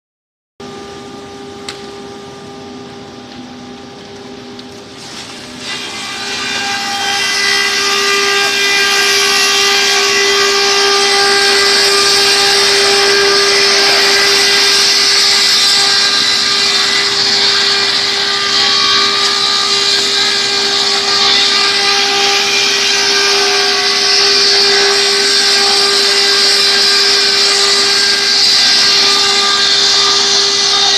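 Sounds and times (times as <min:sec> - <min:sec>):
wood crusher whining: 0:05.0 - 0:30.9.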